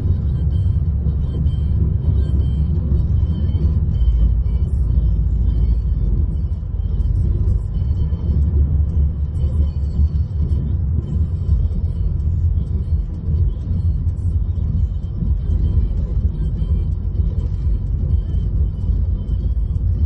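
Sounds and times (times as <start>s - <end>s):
car cabin rumble: 0.0s - 20.0s
faint music: 0.0s - 20.0s.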